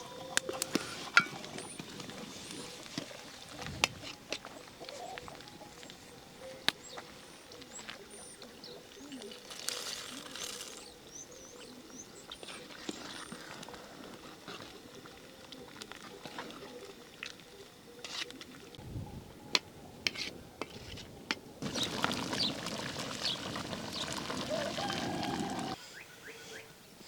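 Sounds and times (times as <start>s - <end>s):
small birds chirping faintly: 0.0s - 27.0s.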